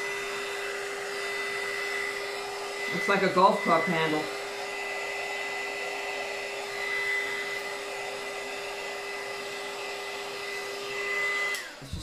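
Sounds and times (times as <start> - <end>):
heat gun blowing air: 0.0 - 12.0.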